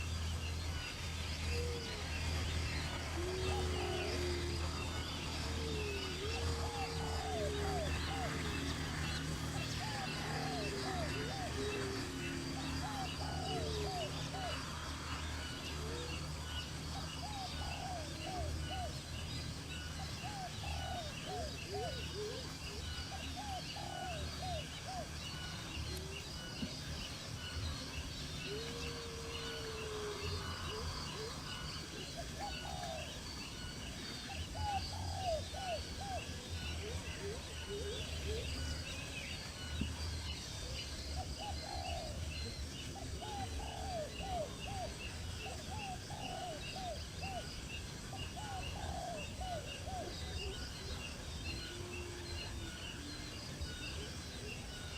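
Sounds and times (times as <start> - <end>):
birds calling low curved notes: 0.0 - 54.9.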